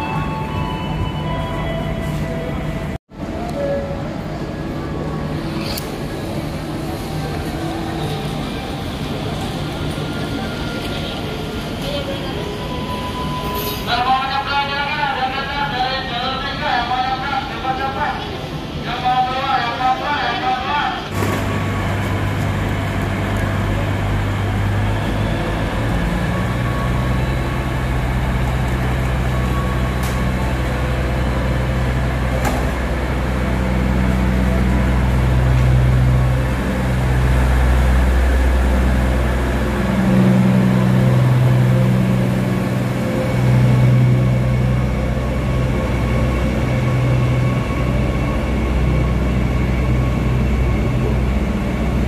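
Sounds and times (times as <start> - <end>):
train engines droning: 0.0 - 52.0.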